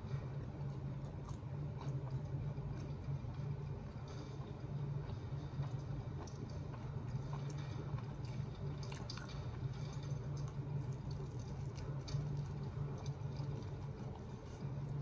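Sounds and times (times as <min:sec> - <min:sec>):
chewing and biting pizza: 0:00.0 - 0:15.0.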